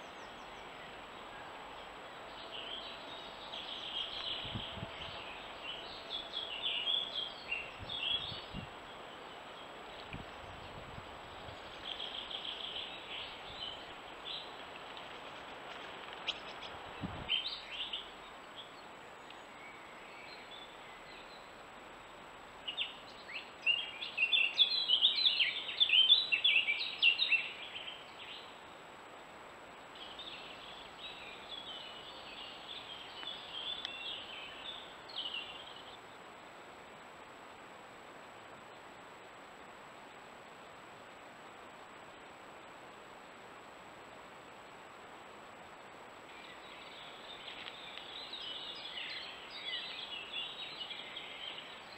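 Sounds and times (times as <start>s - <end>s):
background hiss: 0.0s - 51.9s
songbirds chirping: 0.0s - 51.9s.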